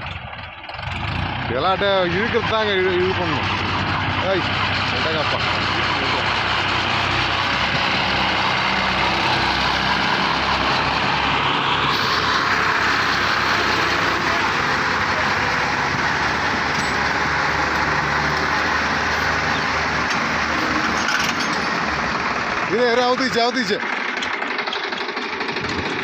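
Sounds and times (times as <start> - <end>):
tractor diesel engines under load: 0.0 - 26.0.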